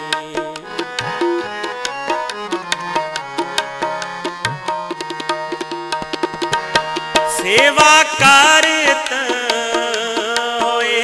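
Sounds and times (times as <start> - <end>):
harmonium notes: 0.0 - 11.0
tabla strokes: 0.1 - 11.0.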